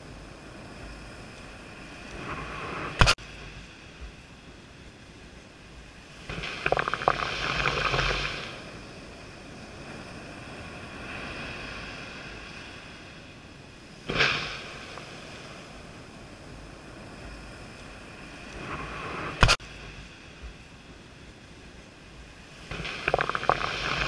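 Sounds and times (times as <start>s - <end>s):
surf washing up a beach: 0.0s - 24.0s.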